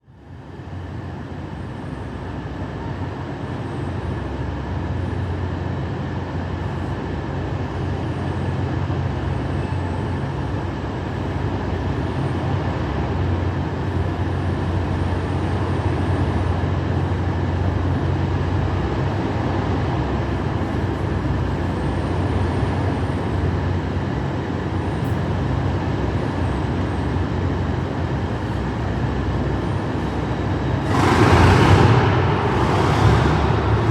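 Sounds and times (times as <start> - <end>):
diesel locomotive engine working hard: 0.0 - 33.9.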